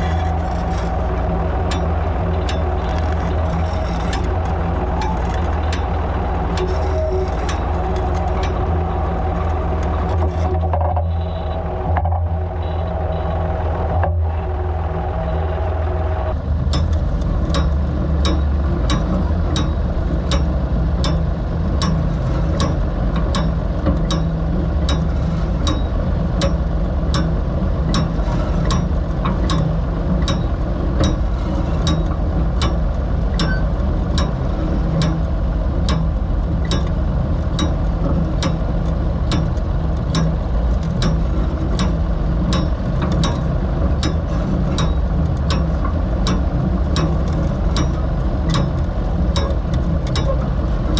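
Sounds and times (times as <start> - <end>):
planter mechanism clicking: 0.0 - 50.9
tractor engine running: 0.0 - 50.9.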